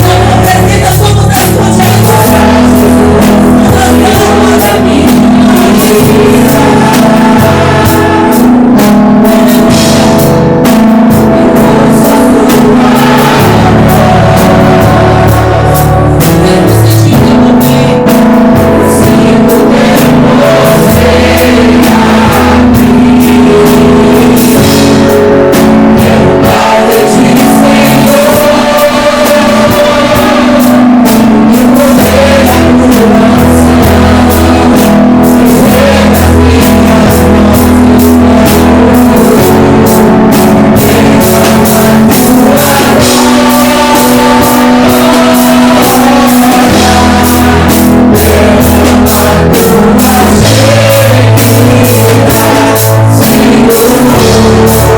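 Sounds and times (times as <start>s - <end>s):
bass guitar: 0.0s - 54.9s
drum kit: 0.0s - 54.9s
electric guitar: 0.0s - 54.9s
person singing: 0.0s - 54.9s.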